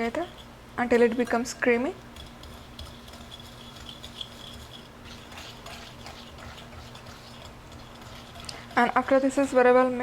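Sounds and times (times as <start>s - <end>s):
utensil scraping a bowl: 0.0s - 10.0s.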